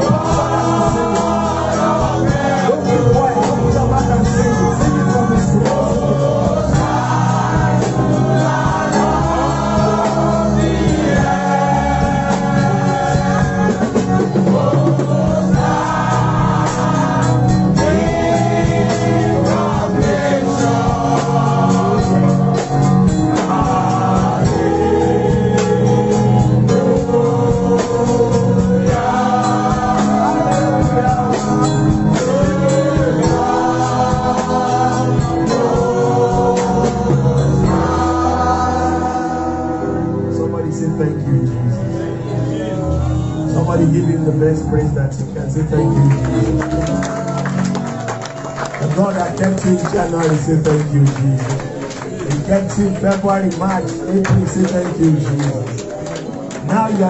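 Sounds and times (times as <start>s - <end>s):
instrumental backing: 0.0s - 57.0s
voices singing worship song: 0.0s - 57.0s.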